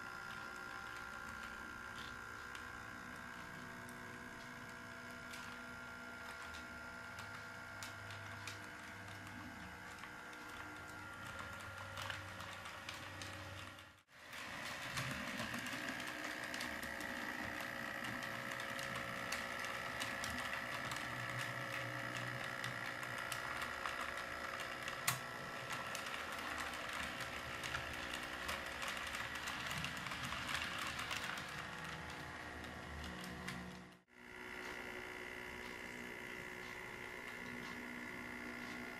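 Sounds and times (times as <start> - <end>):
model train wheels clicking: 0.0 - 38.9.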